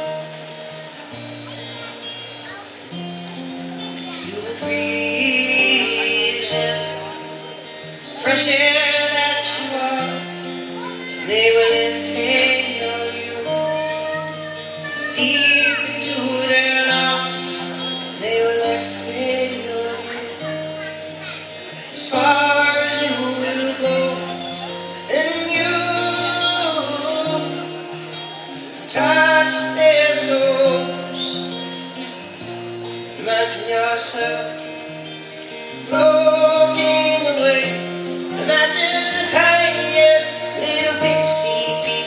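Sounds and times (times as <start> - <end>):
acoustic guitar: 0.0 - 42.0
man singing: 3.3 - 42.0.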